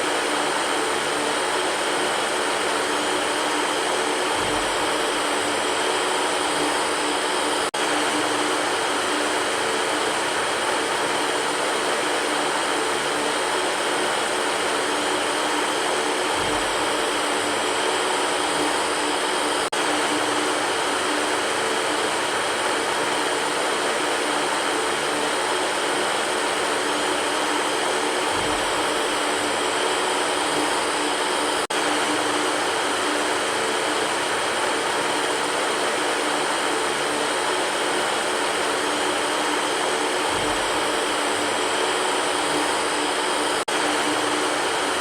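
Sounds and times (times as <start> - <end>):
electric fan running: 0.0 - 45.0.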